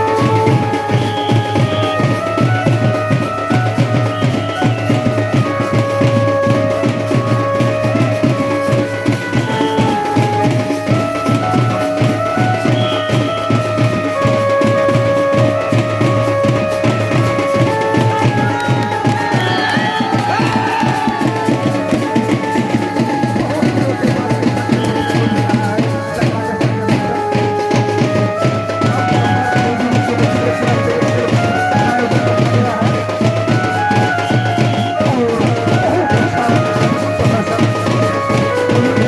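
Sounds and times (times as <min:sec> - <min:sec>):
fast drumming: 0:00.0 - 0:39.0
melody of held notes: 0:00.0 - 0:39.0.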